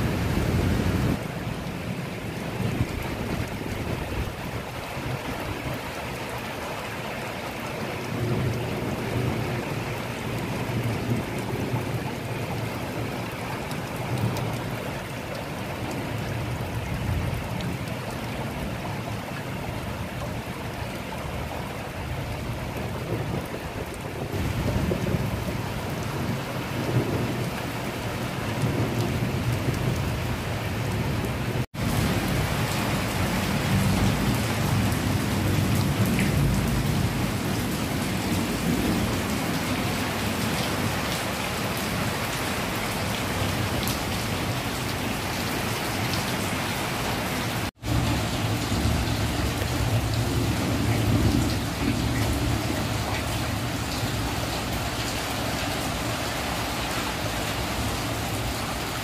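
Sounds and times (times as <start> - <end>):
heavy rain on metal roofs: 0.0 - 59.0.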